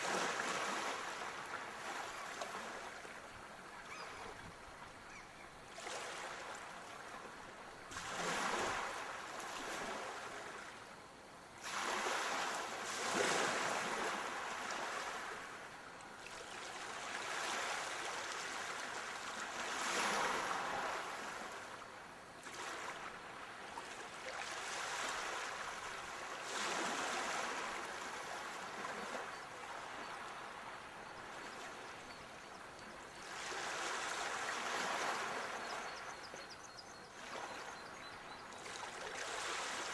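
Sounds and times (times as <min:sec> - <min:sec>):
sea waves breaking on shore: 0:00.0 - 0:10.9, 0:11.6 - 0:39.9.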